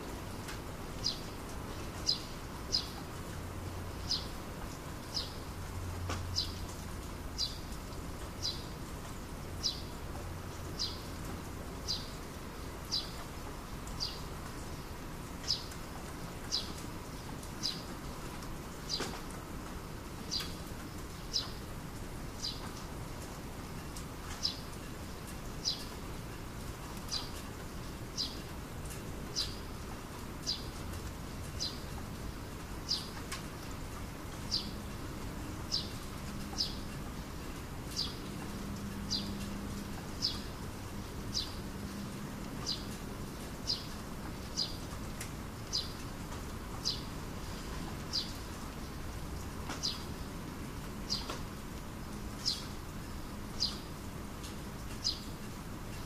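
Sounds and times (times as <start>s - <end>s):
light rain hissing: 0.0s - 56.0s.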